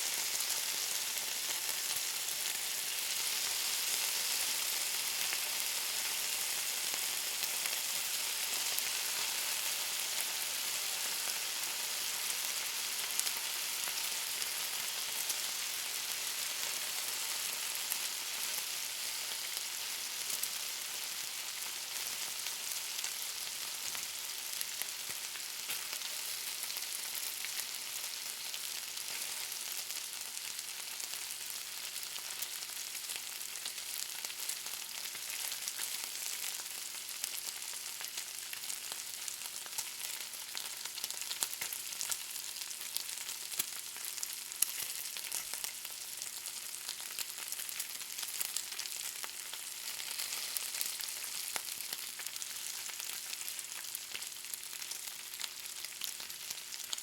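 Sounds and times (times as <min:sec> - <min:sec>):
bacon sizzling: 0:00.0 - 0:57.0.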